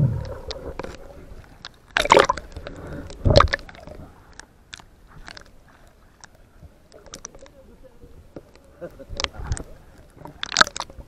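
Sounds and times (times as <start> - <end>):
water sloshing and gurgling: 0.0 - 7.6, 8.2 - 11.0
water splashes: 0.0 - 11.0.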